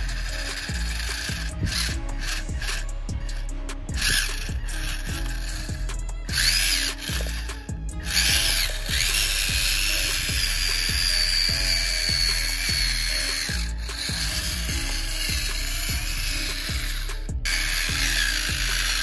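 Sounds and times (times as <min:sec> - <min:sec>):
background music with beat: 0:00.0 - 0:19.0
electric motor whine: 0:00.0 - 0:19.0.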